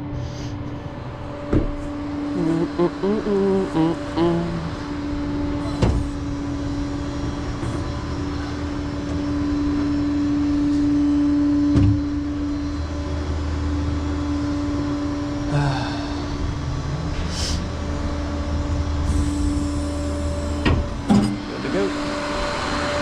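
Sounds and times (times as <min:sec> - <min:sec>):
low engine drone: 0:00.0 - 0:23.0
truck engine whine: 0:00.0 - 0:23.0.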